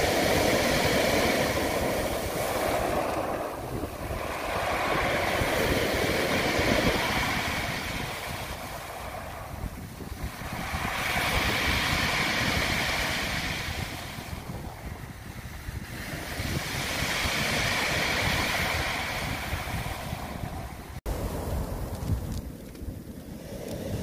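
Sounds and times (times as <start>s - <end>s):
waves breaking on pebble beach: 0.0s - 24.0s.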